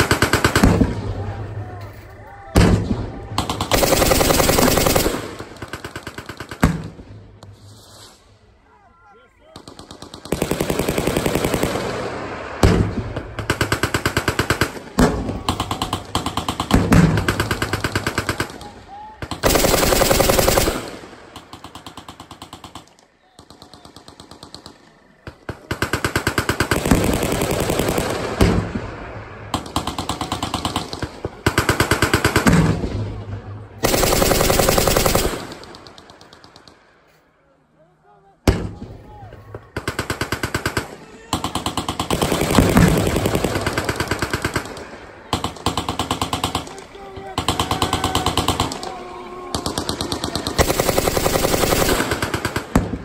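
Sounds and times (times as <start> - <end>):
machine-gun fire: 0.0 - 1.2, 2.6 - 7.1, 9.6 - 33.0, 33.8 - 36.8, 38.5 - 53.0.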